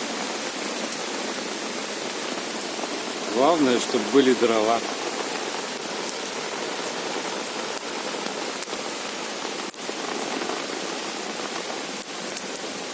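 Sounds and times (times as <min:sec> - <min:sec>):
campfire hissing: 0:00.0 - 0:12.9
campfire popping: 0:00.0 - 0:12.9.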